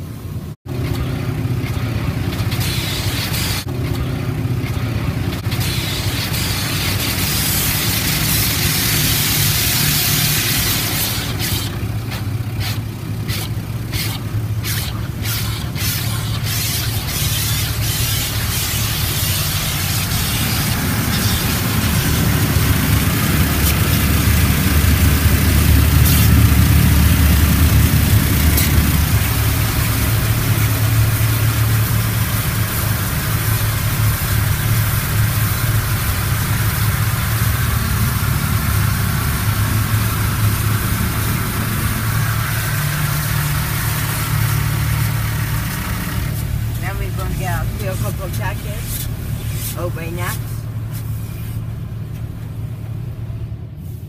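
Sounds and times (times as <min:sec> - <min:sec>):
water spray hissing on car: 0:02.3 - 0:03.7, 0:05.4 - 0:51.8
low rumble: 0:08.3 - 0:54.0.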